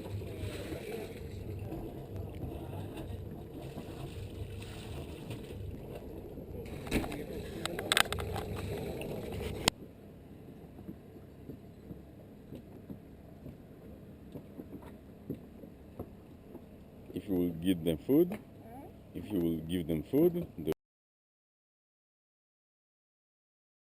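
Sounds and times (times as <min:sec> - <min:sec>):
low rumble aboard sailing yacht: 0:00.0 - 0:20.8.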